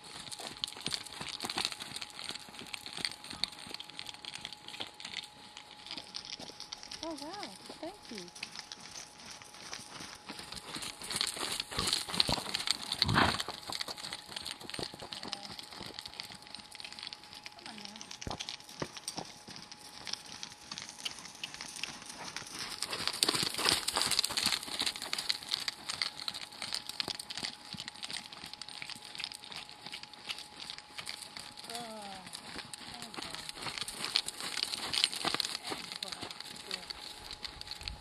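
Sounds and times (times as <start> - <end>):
horse hoofbeats on dirt: 0.0 - 38.0.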